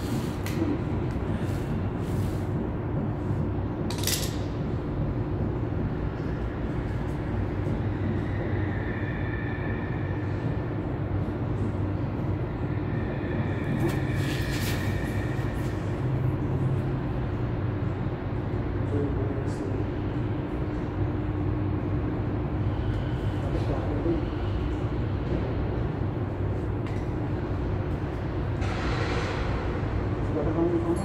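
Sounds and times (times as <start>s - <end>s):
low mechanical hum and rumble: 0.0s - 31.0s.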